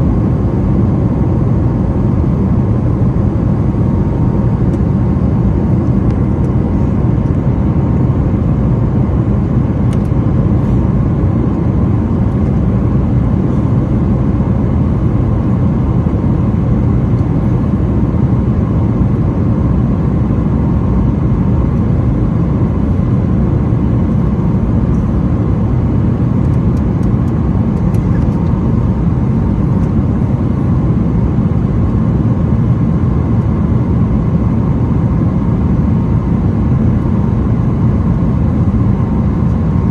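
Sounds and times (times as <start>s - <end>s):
faint steady hum: 0.0s - 39.9s
low rumble of jet engines: 0.0s - 39.9s.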